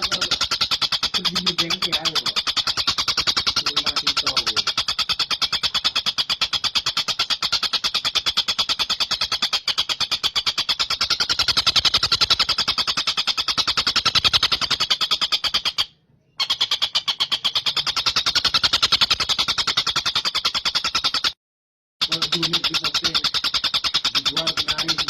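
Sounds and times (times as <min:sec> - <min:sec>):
kingfisher rattling trill: 0:00.0 - 0:21.4, 0:22.0 - 0:25.0.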